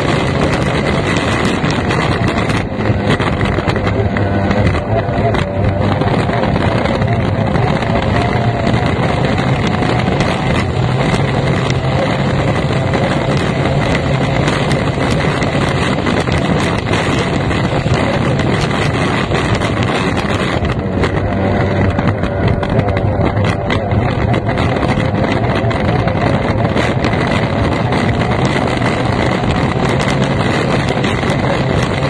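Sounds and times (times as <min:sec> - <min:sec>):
boat engine droning: 0:00.0 - 0:32.0
wind buffeting microphone: 0:00.0 - 0:32.0.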